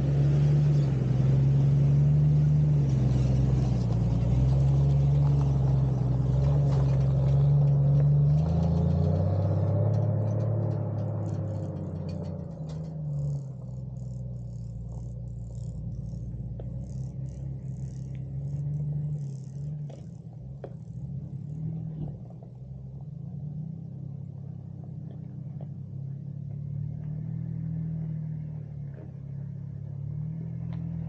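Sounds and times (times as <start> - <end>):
vehicle engine low hum: 0.0 - 31.0.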